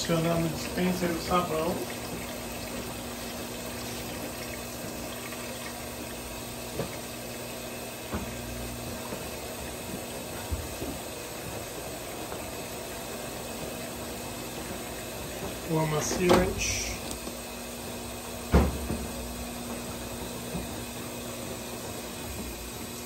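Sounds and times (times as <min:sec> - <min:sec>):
washing machine filling with water: 0:00.0 - 0:23.0.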